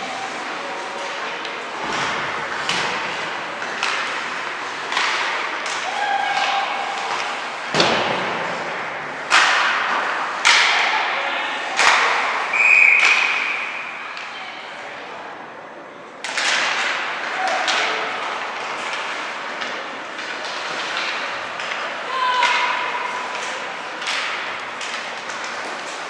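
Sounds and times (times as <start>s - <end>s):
knocks echoing in a hall: 0.0s - 26.0s.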